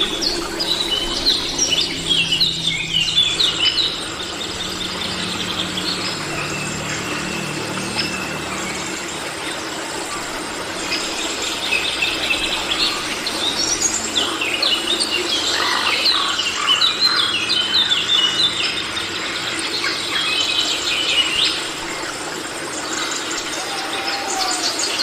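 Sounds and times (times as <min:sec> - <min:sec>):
birds chirping and squealing: 0:00.0 - 0:25.0
insects droning: 0:00.0 - 0:25.0.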